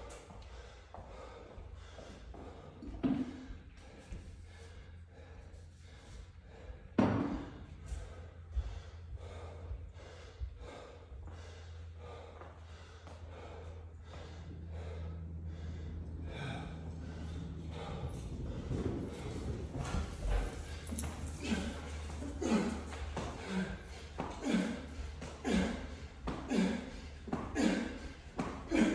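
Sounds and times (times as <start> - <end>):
man breathing hard: 0.0 - 28.9
steady low hum: 0.0 - 28.9.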